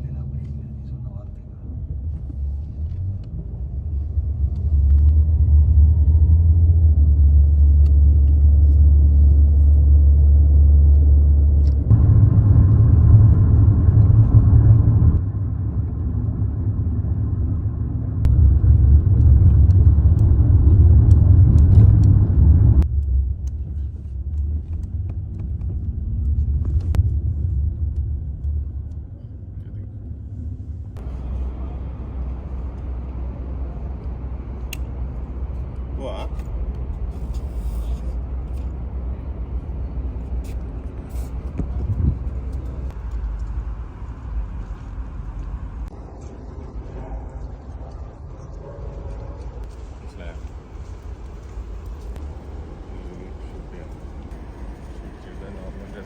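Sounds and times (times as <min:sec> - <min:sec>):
loud low rumble: 0:00.0 - 0:56.0.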